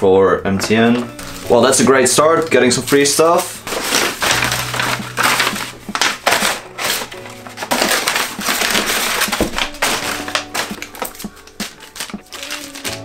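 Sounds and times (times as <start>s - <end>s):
background music: 0.0s - 13.0s
packing paper rustling: 1.0s - 13.0s.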